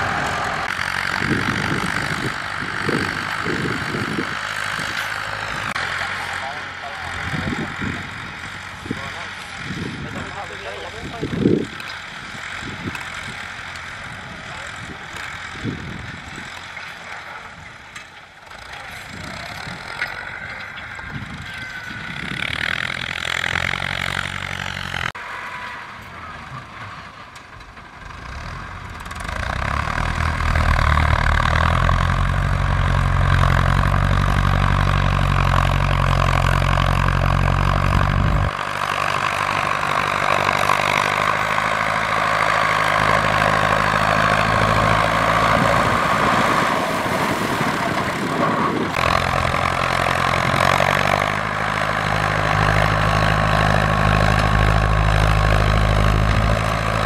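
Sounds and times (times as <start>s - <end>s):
tractor diesel engines working: 0.0s - 57.0s.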